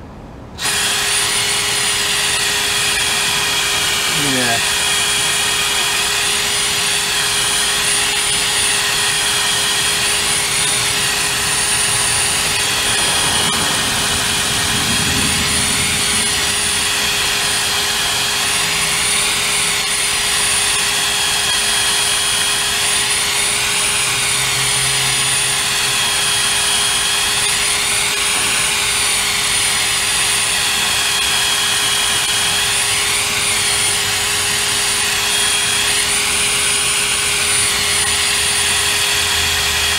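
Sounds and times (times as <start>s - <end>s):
cordless drill whining: 0.6s - 39.9s.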